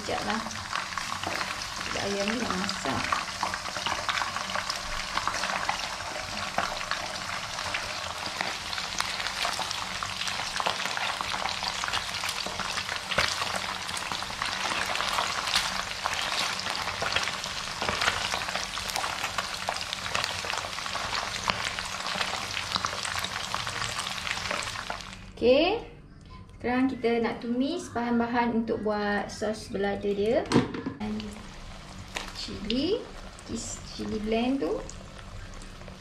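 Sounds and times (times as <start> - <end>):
chicken frying in hot oil: 0.0 - 25.3, 31.1 - 36.0.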